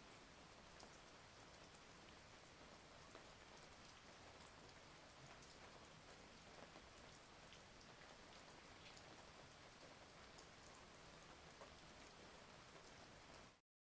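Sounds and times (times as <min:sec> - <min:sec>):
faint rain falling: 0:00.0 - 0:13.6.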